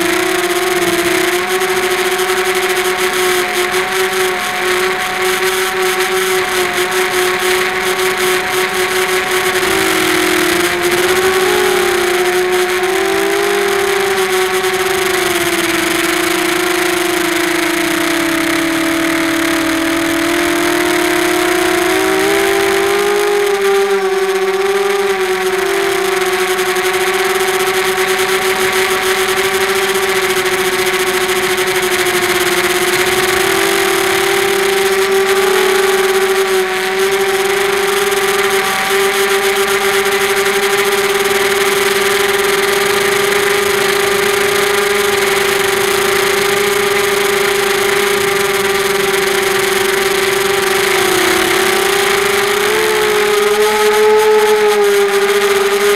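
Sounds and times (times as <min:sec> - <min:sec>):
quadcopter motors whining: 0:00.0 - 0:55.9.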